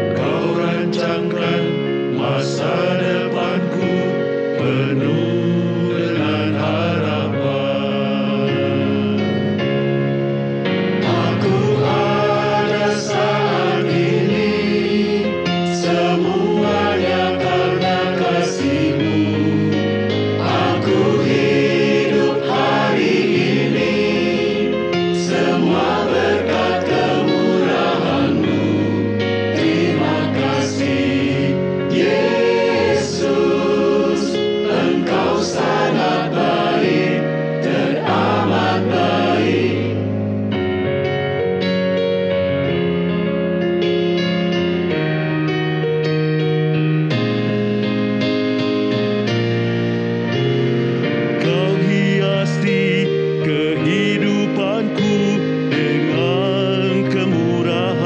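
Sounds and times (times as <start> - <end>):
choir singing a hymn: 0.0 - 40.9, 49.7 - 58.0
sustained accompaniment: 0.0 - 58.0.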